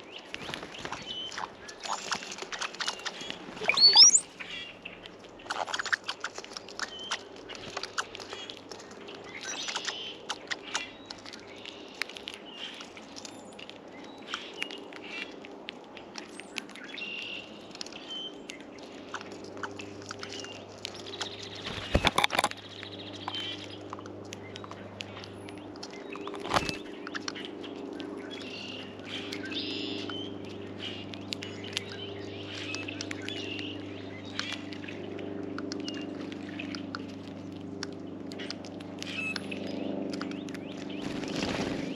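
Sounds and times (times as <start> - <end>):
birds pecking and landing taps: 0.0 - 41.9
small birds chirping: 0.0 - 41.9
steady low hum: 0.0 - 41.9.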